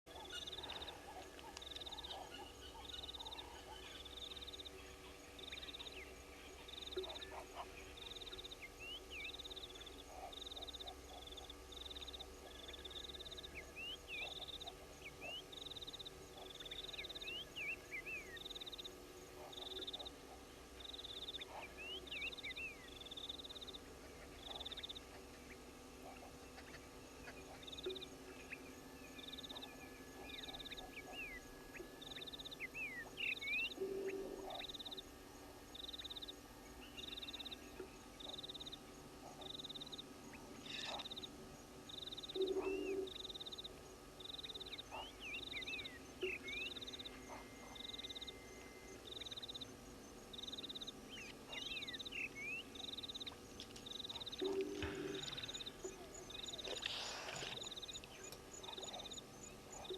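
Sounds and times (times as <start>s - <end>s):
faint steady hum: 0.1s - 59.9s
high pulsed animal call: 0.2s - 59.9s.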